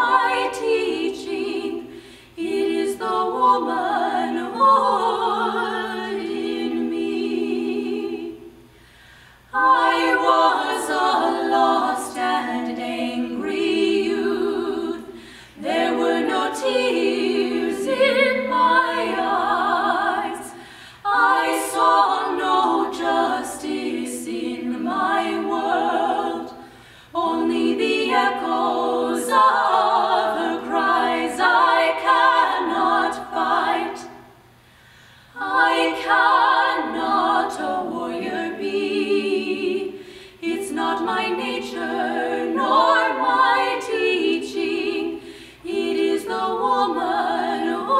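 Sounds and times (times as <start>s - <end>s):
women singing in harmony: 0.0s - 8.6s, 9.5s - 34.5s, 35.3s - 47.9s.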